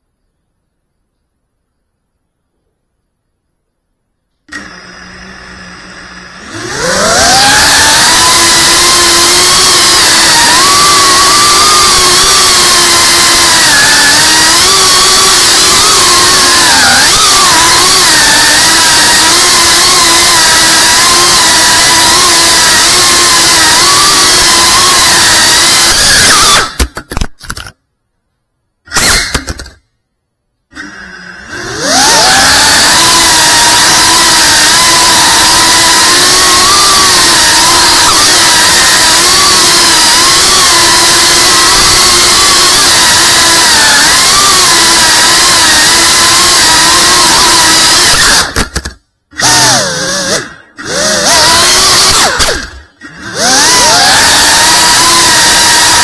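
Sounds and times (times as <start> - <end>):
quadcopter motors whining: 4.5 - 27.0, 28.9 - 29.8, 30.8 - 56.0.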